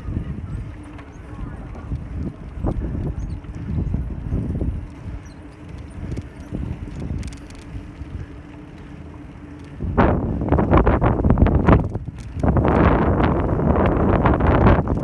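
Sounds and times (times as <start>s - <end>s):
bicycle road rumble: 0.0s - 15.0s
faint steady hum: 0.0s - 15.0s
wind buffeting microphone: 0.0s - 15.0s.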